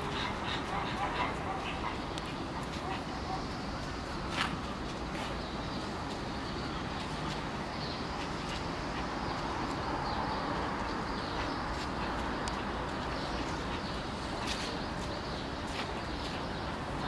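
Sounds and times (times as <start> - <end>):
low rumble of distant traffic: 0.0 - 17.0.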